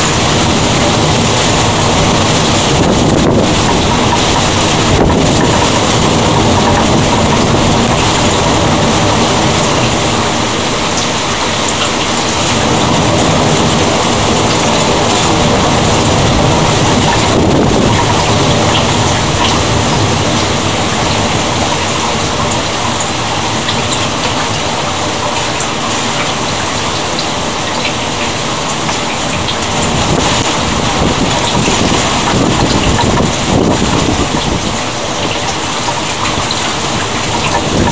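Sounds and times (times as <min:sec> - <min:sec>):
heavy rain hiss: 0:00.0 - 0:37.9.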